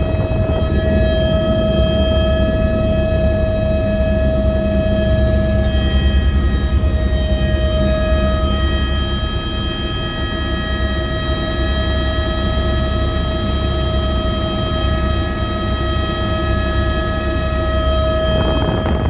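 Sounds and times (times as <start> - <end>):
helicopter engine whine: 0.0 - 19.0
low rotor drone: 0.0 - 19.0.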